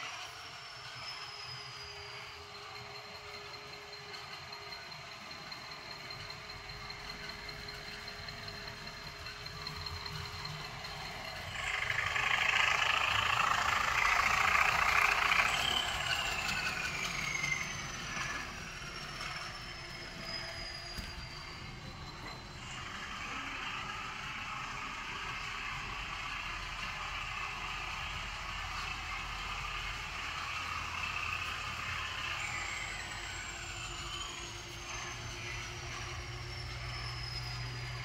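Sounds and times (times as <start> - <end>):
model train diesel engine sound: 0.0 - 38.0
wheels rolling on track: 0.0 - 38.0.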